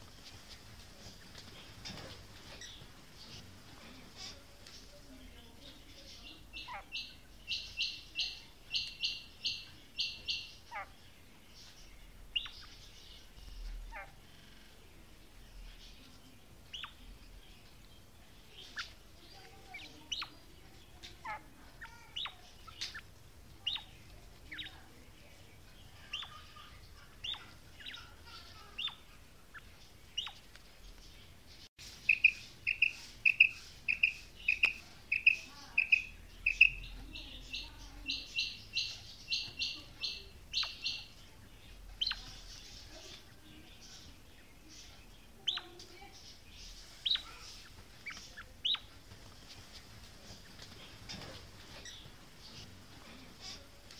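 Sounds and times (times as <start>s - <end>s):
quail chirping: 6.0s - 14.8s, 16.7s - 17.4s, 18.4s - 24.9s, 25.8s - 31.0s, 31.8s - 53.9s.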